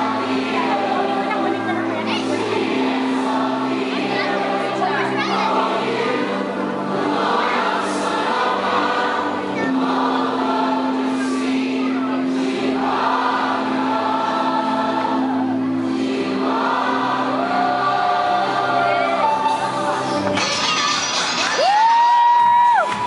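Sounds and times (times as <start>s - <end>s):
choir singing: 0.0s - 20.6s.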